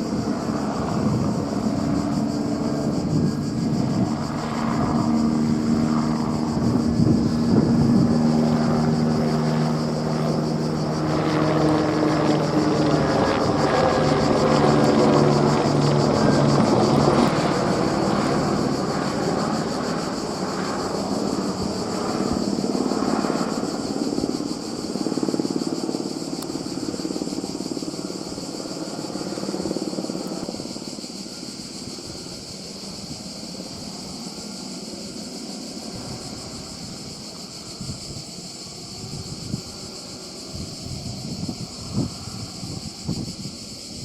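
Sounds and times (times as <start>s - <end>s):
helicopter rotor and turbine: 0.0s - 44.0s
insects buzzing: 0.0s - 44.0s.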